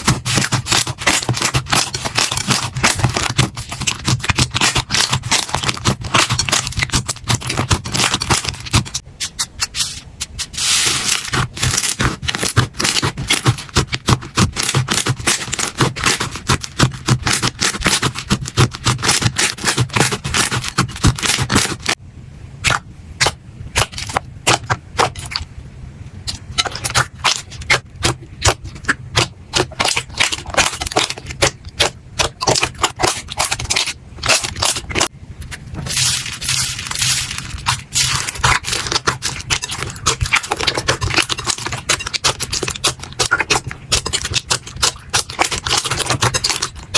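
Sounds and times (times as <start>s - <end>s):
slime crackling and popping: 0.0s - 9.7s, 10.8s - 22.0s, 26.3s - 46.9s.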